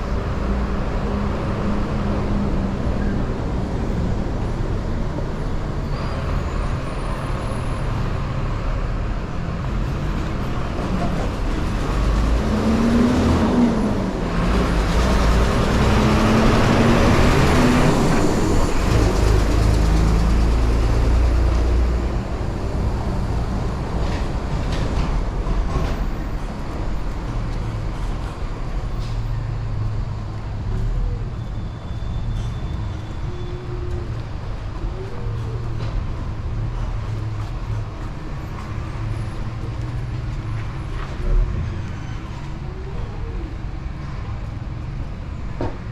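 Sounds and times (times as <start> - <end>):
traffic noise: 0.0 - 45.9.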